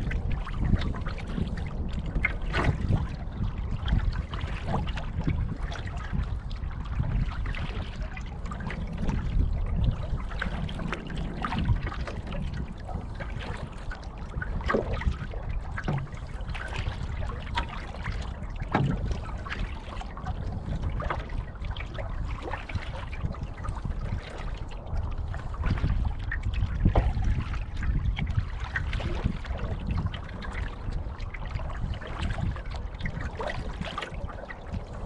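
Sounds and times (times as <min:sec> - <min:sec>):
waves lapping against canoe: 0:00.0 - 0:35.0
wind rumbling on microphone: 0:00.0 - 0:35.0.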